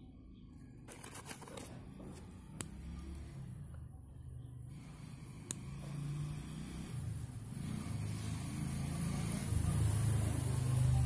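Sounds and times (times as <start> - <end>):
vehicle engine humming: 0.8 - 11.0.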